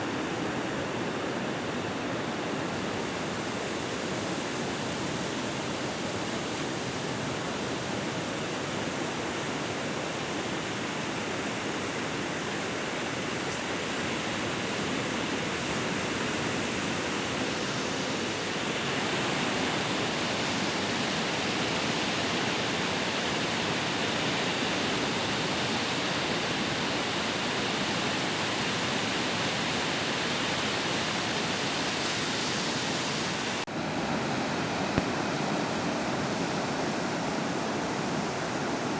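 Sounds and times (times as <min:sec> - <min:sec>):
sea waves breaking on beach: 0:02.9 - 0:38.9.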